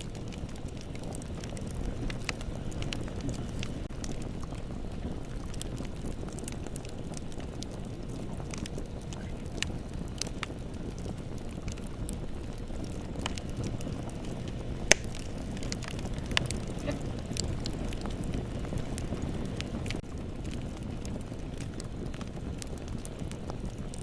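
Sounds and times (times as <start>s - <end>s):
bonfire rumbling: 0.0s - 24.0s
fire crackling and popping: 0.0s - 24.0s.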